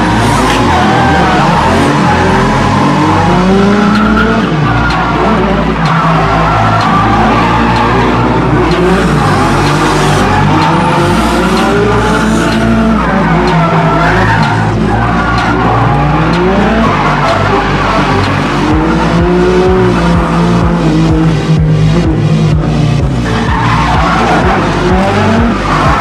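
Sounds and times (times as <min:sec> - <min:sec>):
car engines revving: 0:00.0 - 0:26.0
tyres skidding and squealing: 0:00.0 - 0:26.0.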